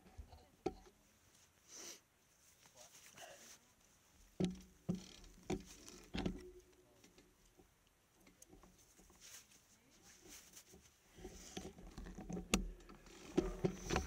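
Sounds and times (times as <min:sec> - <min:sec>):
faint ticks and rustles: 0:00.0 - 0:14.0.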